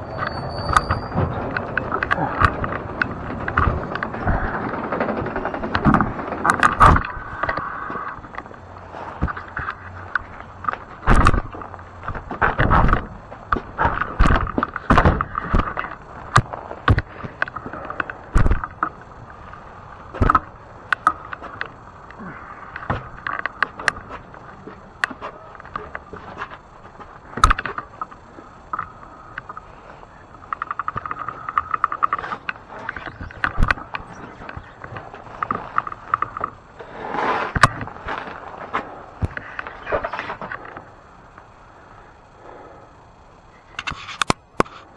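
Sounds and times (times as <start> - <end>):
bike knocks and rattles: 0.0 - 41.4.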